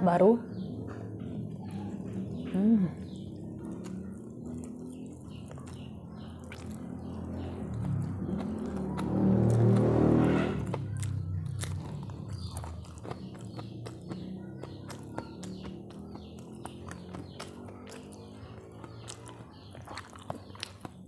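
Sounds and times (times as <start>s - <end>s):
chewing crunchy food: 0.7s - 21.0s.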